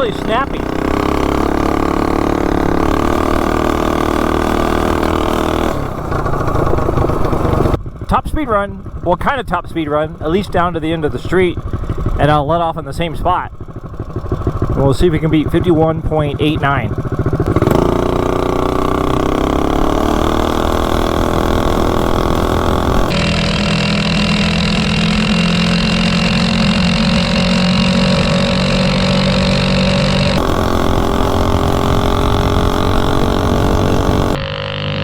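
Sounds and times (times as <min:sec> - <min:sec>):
mini bike engine at full throttle: 0:00.0 - 0:35.0.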